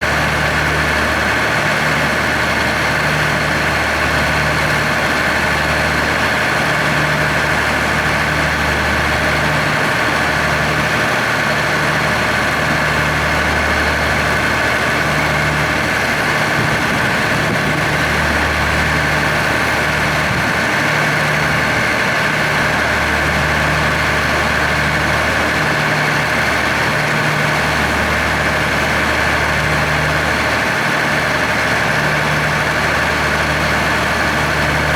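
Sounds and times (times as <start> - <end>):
locomotive engine idling: 0.0 - 34.9.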